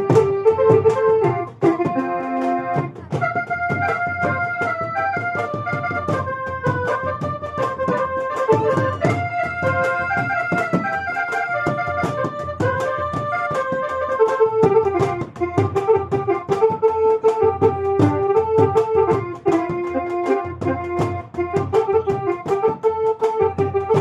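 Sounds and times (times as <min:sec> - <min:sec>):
electronic keyboard organ melody: 0:00.0 - 0:24.0
steady drum beat: 0:00.0 - 0:24.0.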